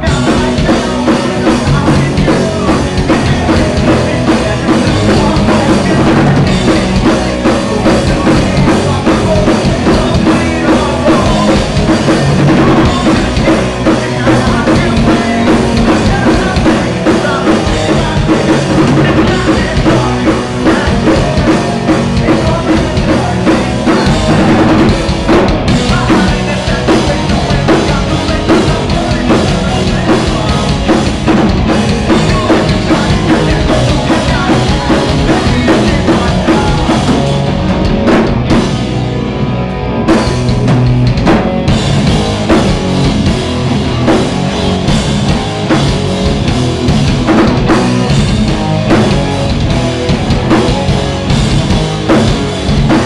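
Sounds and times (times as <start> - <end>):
live rock band playing: 0.0 - 53.0
pounding drum kit: 0.0 - 53.0.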